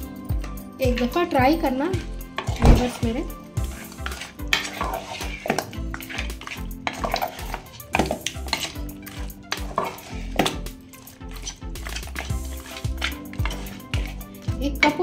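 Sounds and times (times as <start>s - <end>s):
background music: 0.0s - 15.0s
spoon scraping metal pot: 0.9s - 15.0s.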